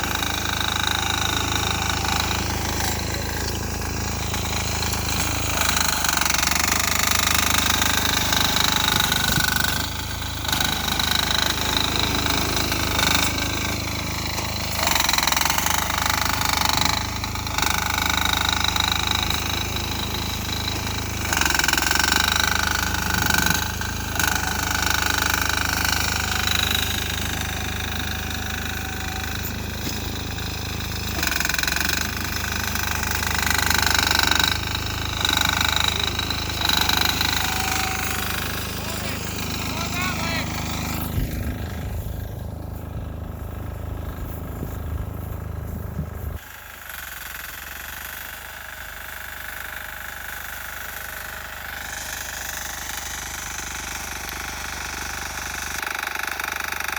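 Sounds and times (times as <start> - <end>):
diesel tractor engine under load: 0.0 - 56.9.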